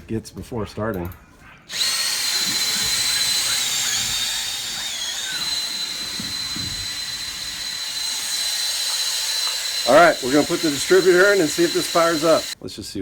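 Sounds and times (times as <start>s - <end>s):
electric drill whining: 1.7s - 12.6s.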